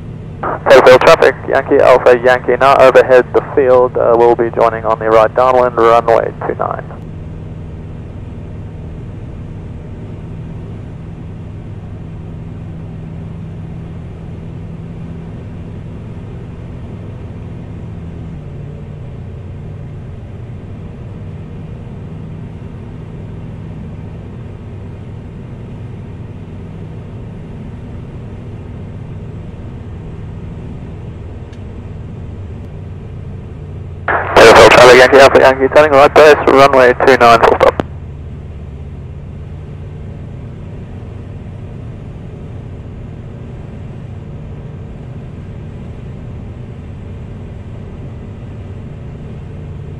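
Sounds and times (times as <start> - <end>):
aircraft engine and propeller droning: 0.0 - 49.9.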